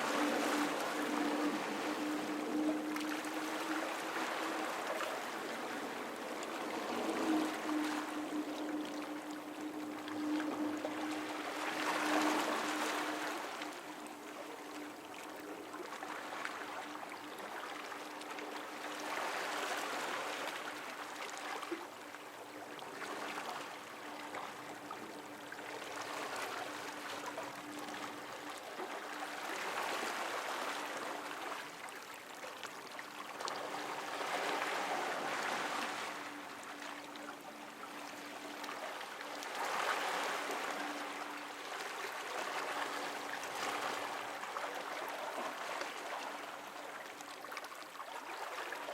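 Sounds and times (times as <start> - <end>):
faint steady hum: 0.0 - 48.9
water lapping and washing: 0.0 - 48.9.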